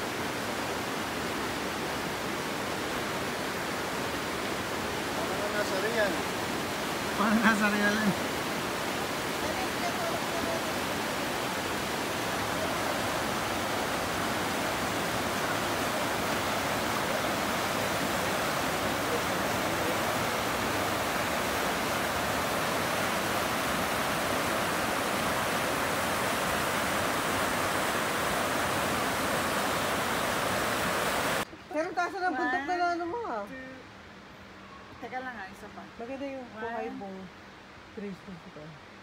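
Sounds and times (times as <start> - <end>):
rapids rushing: 0.0 - 31.5.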